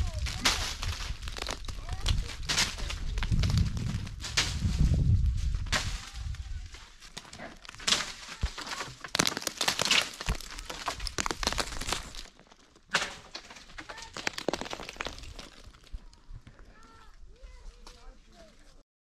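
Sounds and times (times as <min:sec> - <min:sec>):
twigs and leaves crunching: 0:00.0 - 0:18.8.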